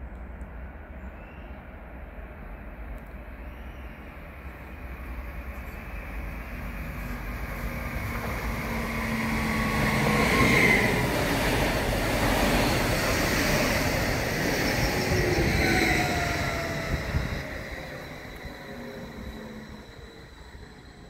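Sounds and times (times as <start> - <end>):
electric train running in: 3.5 - 21.0
falling whine of traction motors: 3.7 - 21.0.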